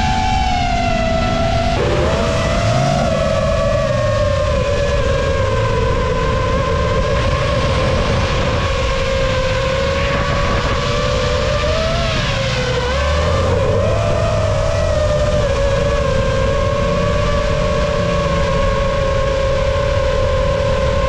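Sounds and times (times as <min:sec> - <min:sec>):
low rushing noise: 0:00.0 - 0:21.0
quadcopter motors whining: 0:00.0 - 0:21.0.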